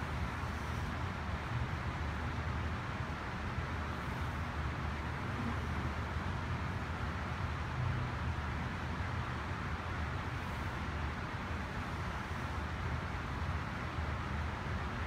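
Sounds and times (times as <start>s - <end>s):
room hum with hiss: 0.0s - 15.0s.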